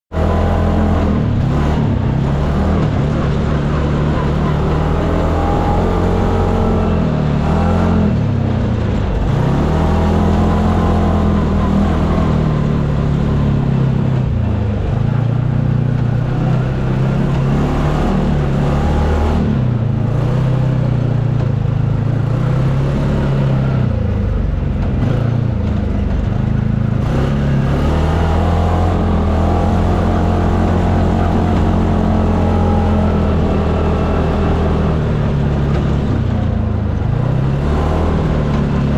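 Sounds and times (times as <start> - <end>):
utility vehicle engine revving: 0.1 - 38.9.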